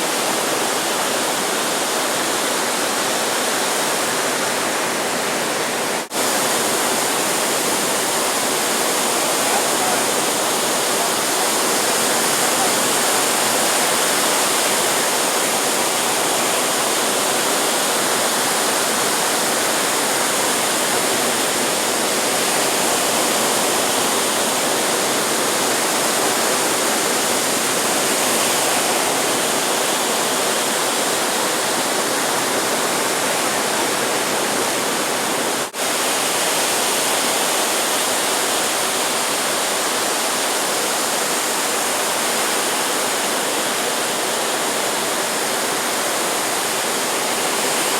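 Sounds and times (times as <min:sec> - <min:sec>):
ocean surf breaking: 0:00.0 - 0:37.3, 0:41.9 - 0:47.9.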